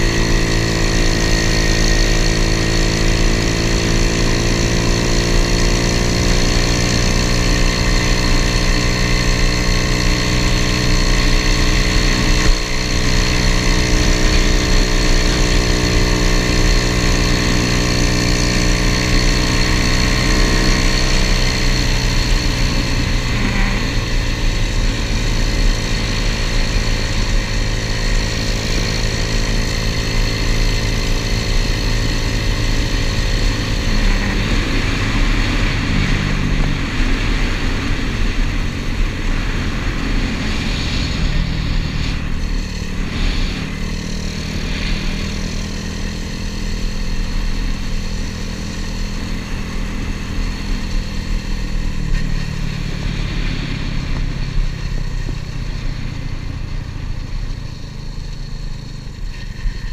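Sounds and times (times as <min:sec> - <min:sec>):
small motorbike engine running: 0:00.0 - 0:59.9.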